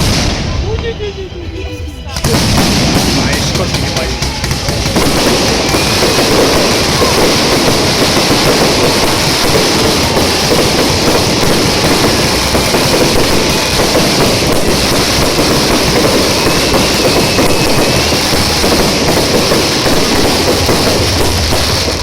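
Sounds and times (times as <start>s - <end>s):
faint fireworks whistle: 0.0s - 22.0s
fireworks crackling: 0.0s - 22.0s.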